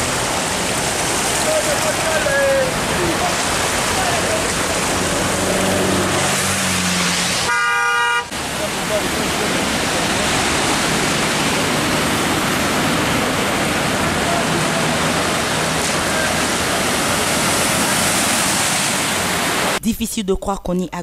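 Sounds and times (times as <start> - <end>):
cars splashing through water: 0.0 - 19.8.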